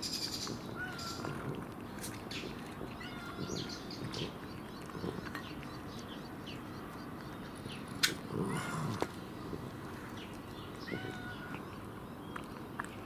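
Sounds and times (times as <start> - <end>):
birds chirping: 0.0 - 13.0
low background noise: 0.0 - 13.0.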